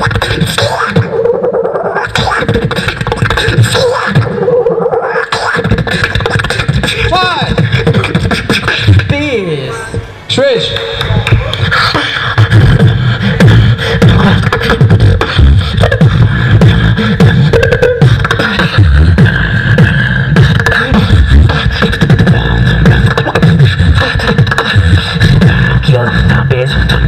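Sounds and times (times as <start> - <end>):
beatboxing over a pa: 0.0 - 9.6, 10.6 - 27.0.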